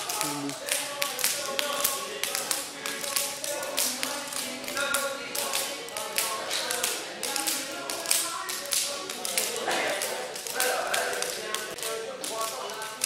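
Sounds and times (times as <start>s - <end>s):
rapid sharp taps and slaps: 0.0s - 13.0s.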